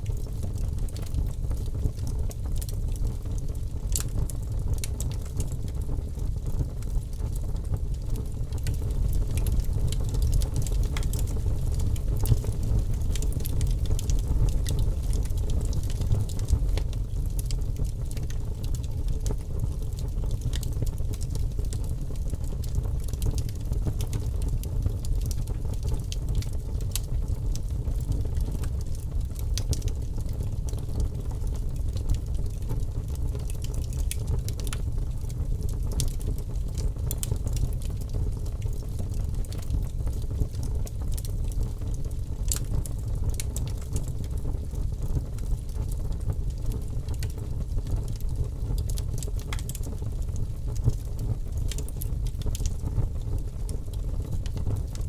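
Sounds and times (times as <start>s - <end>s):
fire flame rumble: 0.0s - 55.0s
wood crackling and popping: 0.0s - 55.0s.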